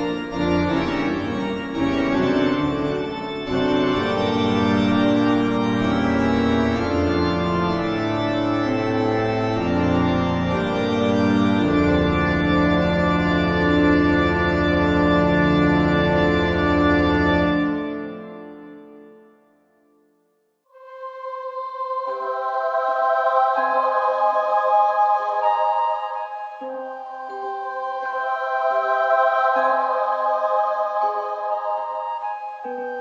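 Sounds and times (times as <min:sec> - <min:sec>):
horror background music chords: 0:00.0 - 0:19.0, 0:20.8 - 0:33.0.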